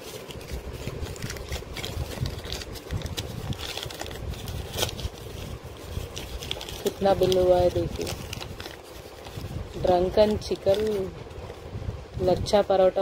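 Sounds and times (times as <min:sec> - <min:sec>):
paper and plastic bag rustling: 0:00.0 - 0:11.8.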